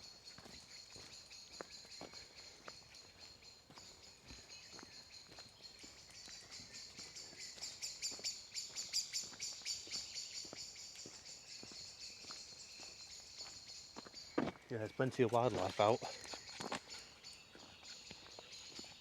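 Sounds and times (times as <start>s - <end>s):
faint footsteps on path: 0.0s - 19.0s.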